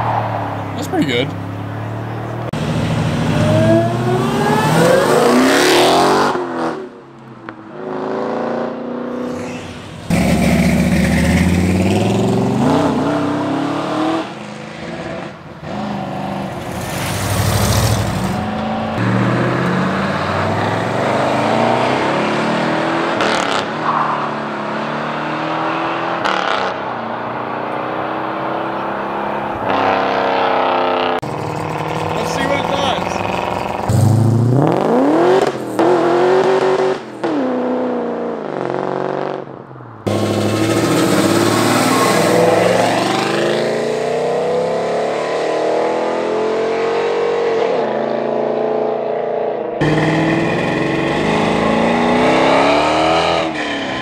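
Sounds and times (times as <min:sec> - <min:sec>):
car engines revving and accelerating: 0:00.0 - 0:54.0.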